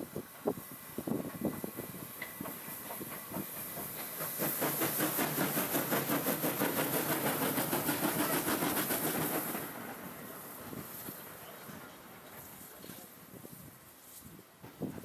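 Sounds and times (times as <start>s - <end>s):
steam locomotive chuffing: 0.0s - 13.7s
hissing steam: 0.0s - 15.0s.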